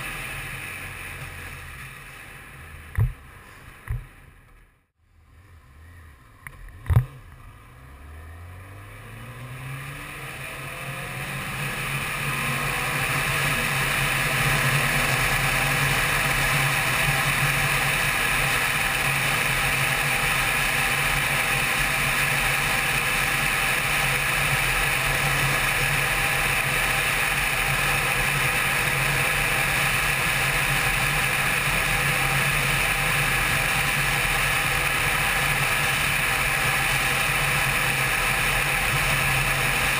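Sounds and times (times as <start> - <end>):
motorcycle engine accelerating: 5.2 - 39.9.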